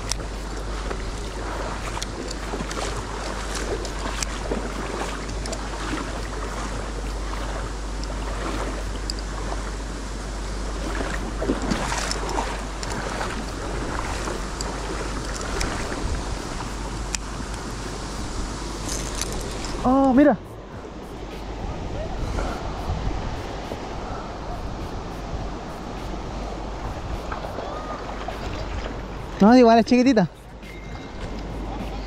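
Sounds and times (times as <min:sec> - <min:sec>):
river water rushing over stones: 0:00.0 - 0:32.0.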